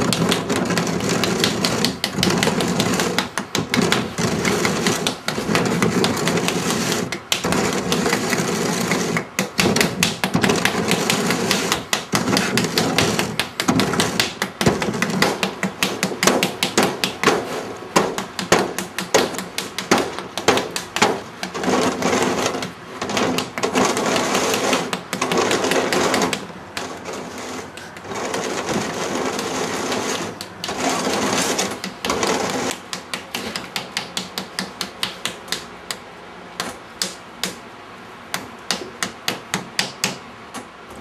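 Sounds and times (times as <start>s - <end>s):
rapid uneven tapping: 0.0s - 37.6s.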